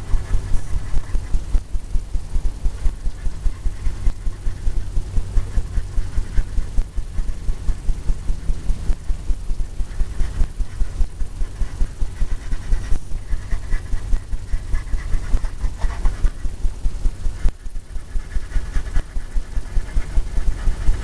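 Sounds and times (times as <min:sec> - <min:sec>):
brush scrubbing on canvas: 0:00.0 - 0:01.8, 0:02.4 - 0:21.0.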